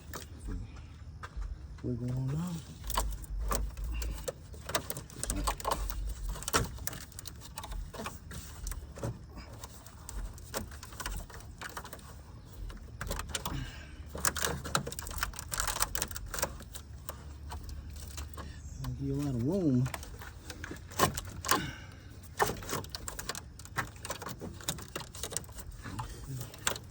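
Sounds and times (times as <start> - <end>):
plastic fan assembly clicking and rattling: 0.0 - 0.3, 2.1 - 26.9.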